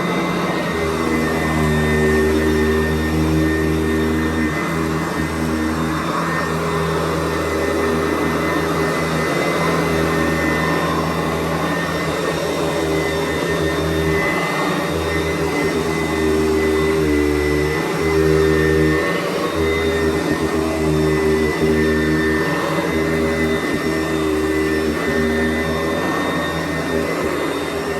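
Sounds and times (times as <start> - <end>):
vacuum cleaner running: 0.0 - 27.9.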